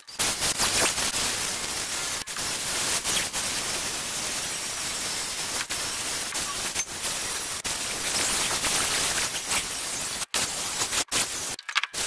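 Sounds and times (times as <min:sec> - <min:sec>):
drill wire brush scouring rust: 0:00.2 - 0:12.0.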